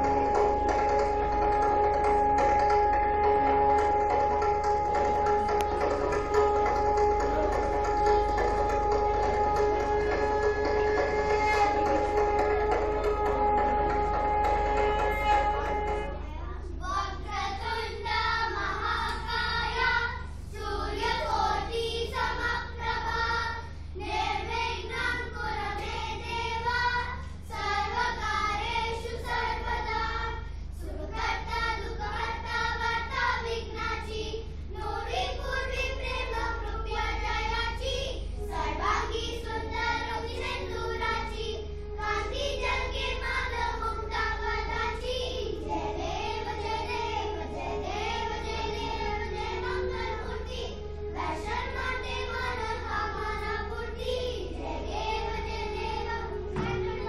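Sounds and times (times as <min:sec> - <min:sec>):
children singing together: 0:00.0 - 0:57.0
steady low hum: 0:00.0 - 0:57.0.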